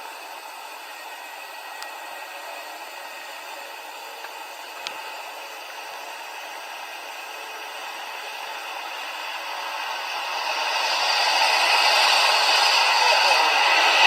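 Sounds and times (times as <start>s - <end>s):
jet airliner engine roar: 0.0s - 14.0s.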